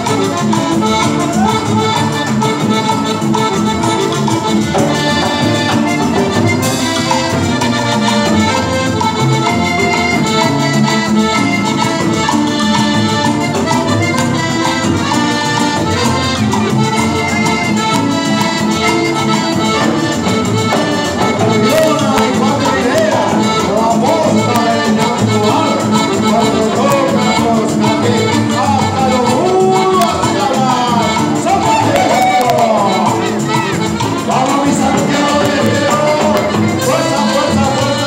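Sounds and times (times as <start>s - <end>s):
accordion: 0.0s - 38.0s
congas: 0.0s - 38.0s.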